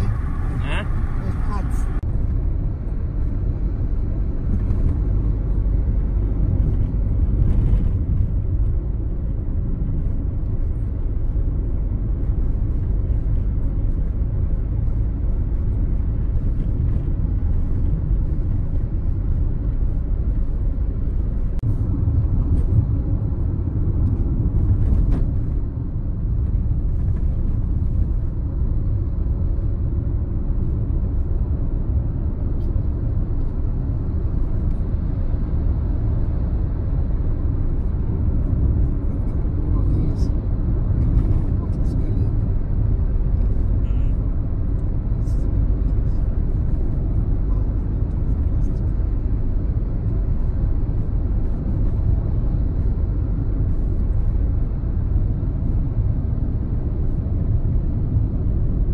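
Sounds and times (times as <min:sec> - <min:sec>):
car tyre and engine rumble: 0:00.0 - 0:58.9.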